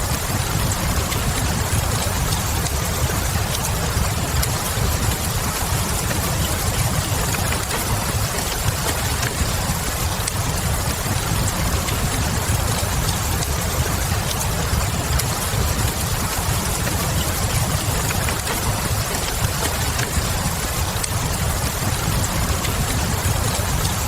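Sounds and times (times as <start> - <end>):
fireplace crackles: 0.0 - 24.0
steady rain: 0.0 - 24.0.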